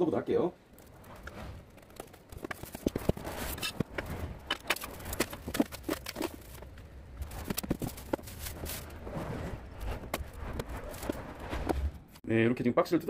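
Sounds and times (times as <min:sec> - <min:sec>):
packaging rustling and crackling: 0:00.6 - 0:11.7.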